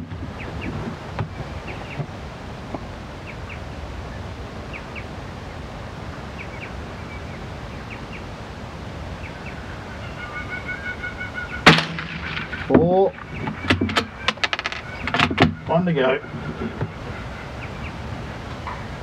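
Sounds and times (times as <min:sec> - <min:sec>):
bird chirping: 0:00.0 - 0:02.1, 0:03.2 - 0:05.6, 0:06.3 - 0:08.3, 0:09.2 - 0:18.1.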